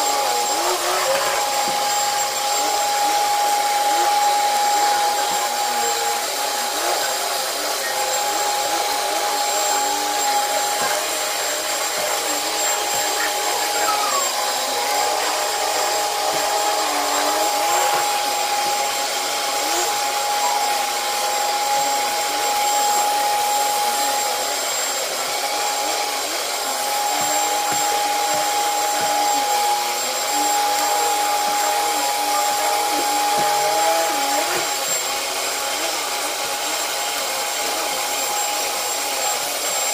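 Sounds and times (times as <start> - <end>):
vacuum cleaner running over carpet: 0.0 - 39.9.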